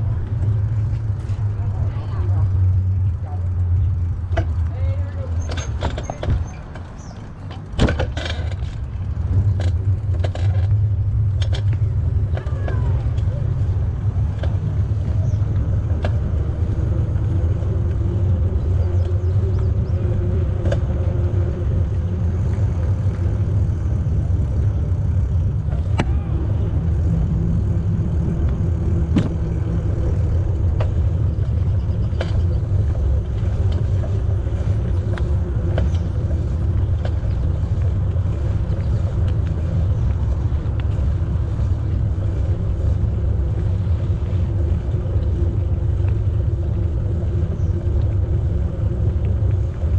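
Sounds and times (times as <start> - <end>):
bicycle tyre noise on path: 0.0 - 49.9
wind rumble on microphone: 0.0 - 49.9.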